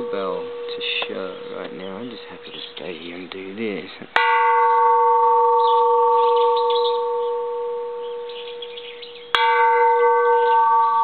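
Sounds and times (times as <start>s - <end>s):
temple bell ringing: 0.0s - 3.3s, 4.2s - 11.0s.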